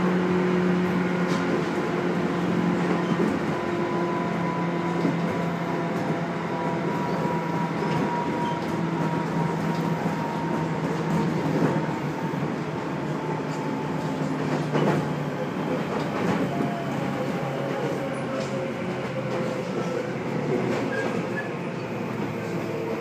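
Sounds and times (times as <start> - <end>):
train wheels rumbling on track: 0.0 - 23.0.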